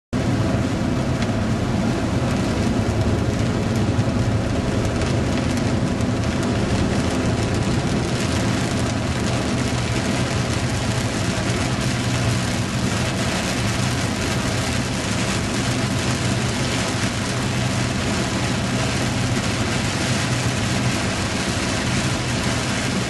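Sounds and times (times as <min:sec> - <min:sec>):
heavy rain falling: 0:00.2 - 0:23.0
low rumble: 0:00.2 - 0:23.0.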